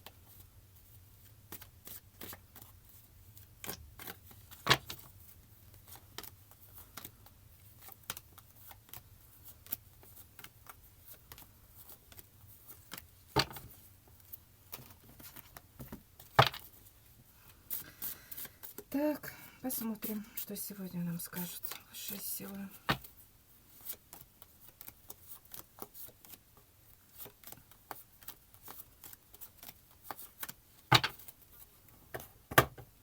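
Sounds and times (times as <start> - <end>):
cards being shuffled: 1.2 - 18.9, 21.5 - 32.6.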